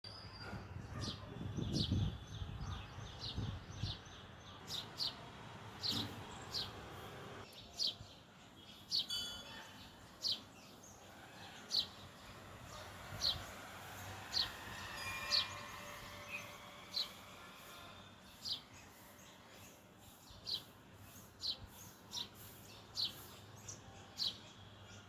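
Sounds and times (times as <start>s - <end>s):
sparrows chirping: 0.1s - 25.0s.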